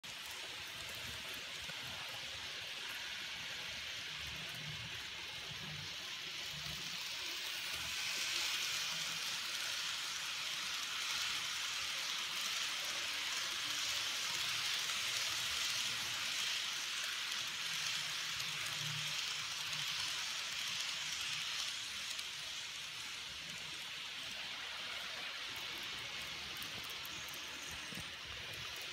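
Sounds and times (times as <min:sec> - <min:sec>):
model train wheels hissing on rail: 0:00.0 - 0:28.9.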